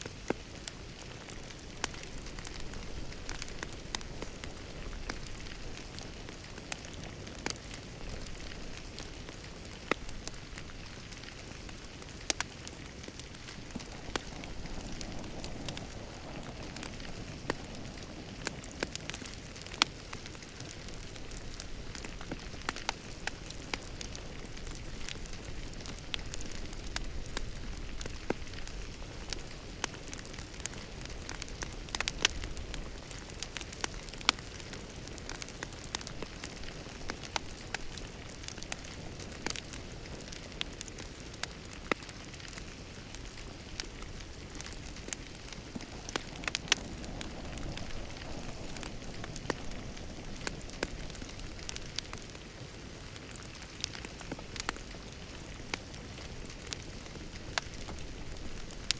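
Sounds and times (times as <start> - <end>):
fire pops and snaps: 0.0 - 58.9
soft fire hiss: 0.0 - 58.9.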